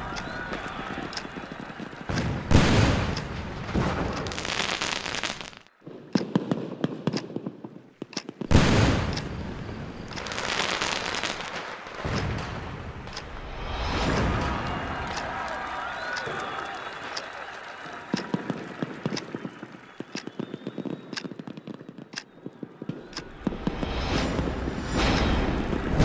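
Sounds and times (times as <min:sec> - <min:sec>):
fireworks booming: 0:00.0 - 0:26.0
fireworks crackling pops: 0:00.0 - 0:26.0.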